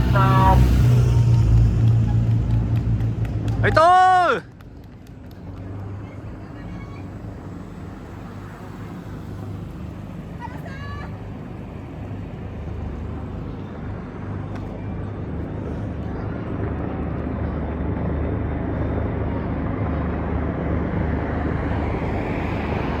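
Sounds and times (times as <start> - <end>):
road noise: 0.0 - 23.0
vehicle engine rumble: 0.0 - 23.0.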